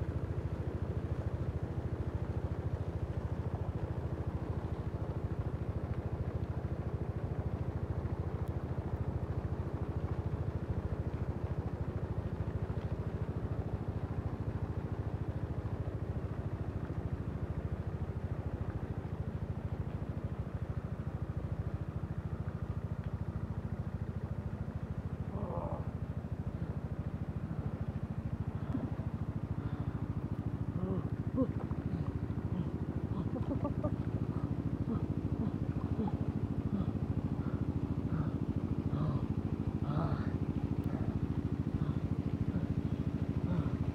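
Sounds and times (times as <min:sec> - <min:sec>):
engine droning steadily: 0:00.0 - 0:43.9.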